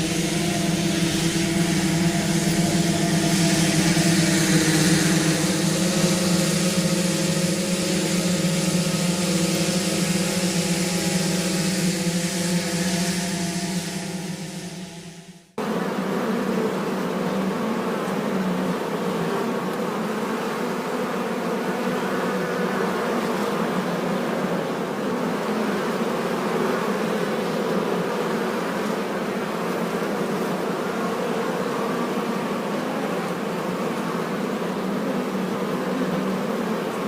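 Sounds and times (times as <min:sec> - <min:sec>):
bees buzzing: 0:00.0 - 0:37.0.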